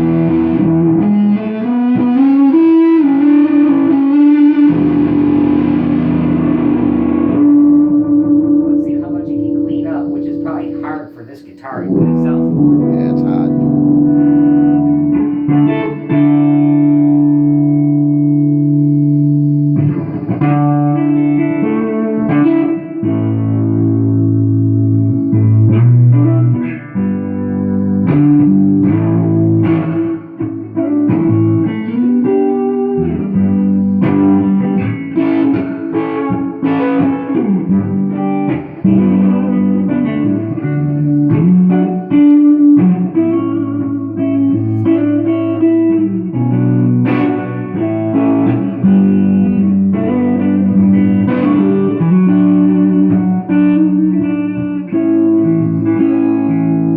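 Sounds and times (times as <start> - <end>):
electric guitar notes and chords: 0.0 - 56.9.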